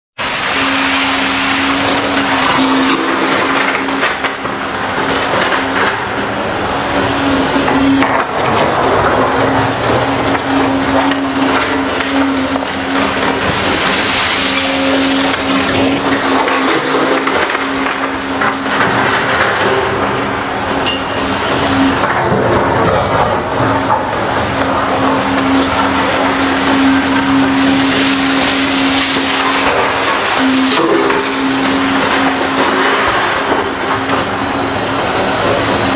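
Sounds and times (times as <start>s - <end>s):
excavator engine and hydraulic drone: 0.2s - 35.9s
held machine hum: 0.2s - 35.9s.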